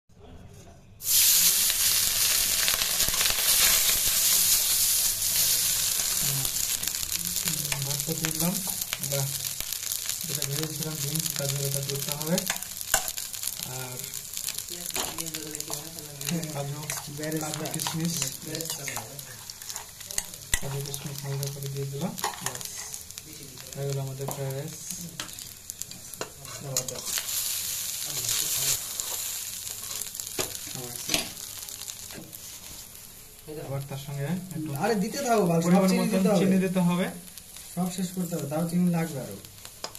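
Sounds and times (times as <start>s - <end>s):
rice sizzling in a wok: 1.0s - 39.9s.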